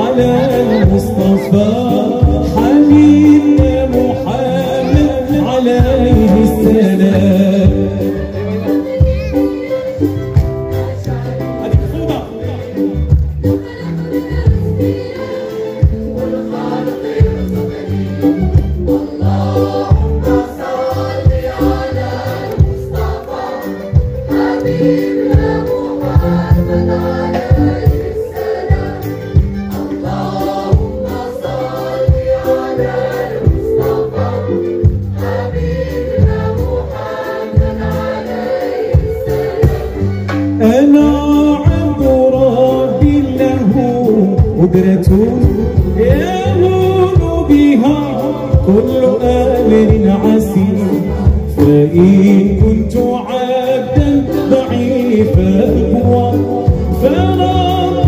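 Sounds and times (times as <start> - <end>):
steady beat: 0.0 - 53.1
choir singing: 0.0 - 58.0
string orchestra with keyboards: 0.0 - 58.0.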